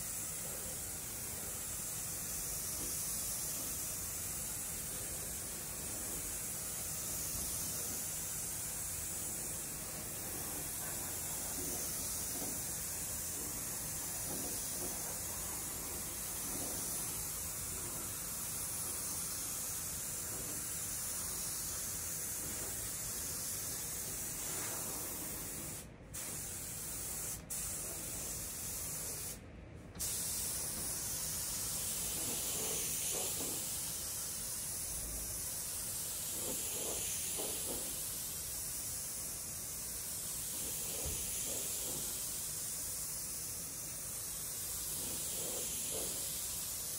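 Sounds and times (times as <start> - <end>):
spray gun hissing: 0.0 - 29.4, 30.0 - 46.9.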